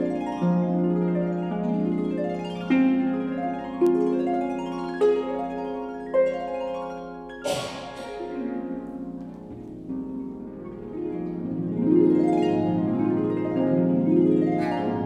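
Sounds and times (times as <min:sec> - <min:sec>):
harp playing: 0:00.0 - 0:15.0.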